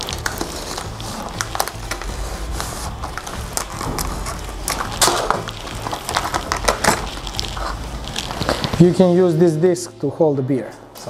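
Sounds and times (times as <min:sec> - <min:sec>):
plastic film crinkling: 0:00.0 - 0:09.8
background music: 0:00.0 - 0:11.0.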